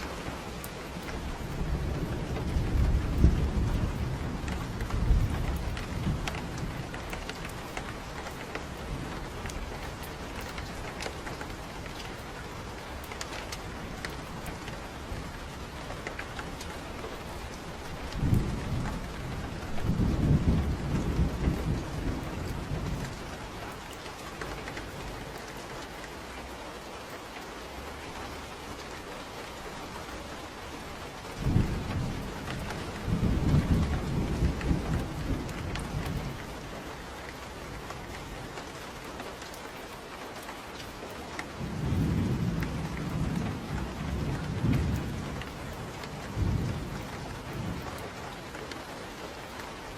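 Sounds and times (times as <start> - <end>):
low rolling thunder: 0.0 - 25.8, 29.9 - 38.8, 41.5 - 49.9
rain falling on a porch: 0.0 - 49.9.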